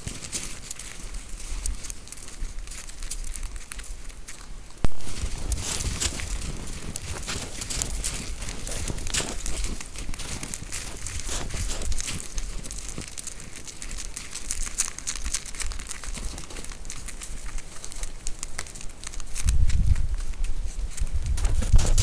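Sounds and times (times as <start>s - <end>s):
hooves crunching in snow: 0.0s - 22.0s.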